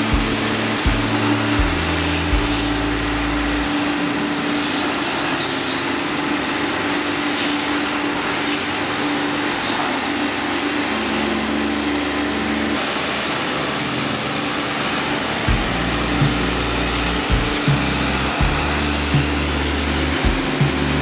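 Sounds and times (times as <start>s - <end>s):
pump motor hum: 0.0s - 21.0s.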